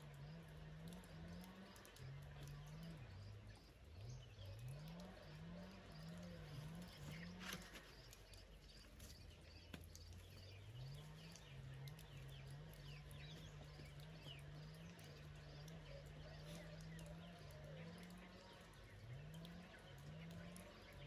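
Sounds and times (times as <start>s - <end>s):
faint high ticks: 0.0s - 21.0s
small birds chirping: 0.0s - 21.0s.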